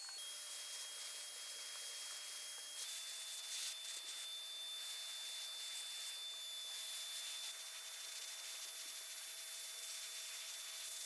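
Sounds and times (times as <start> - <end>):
paint spray gun hissing: 0.0 - 11.0.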